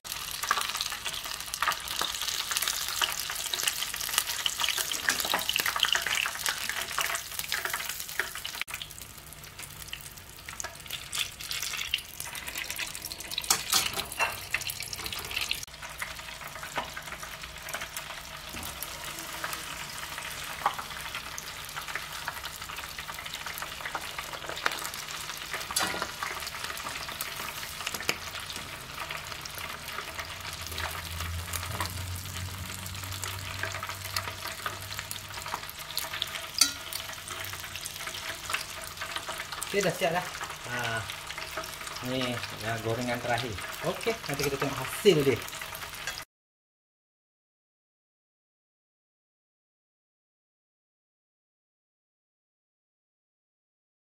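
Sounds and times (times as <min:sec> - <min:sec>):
prawns deep-frying in oil: 0:00.1 - 0:46.3.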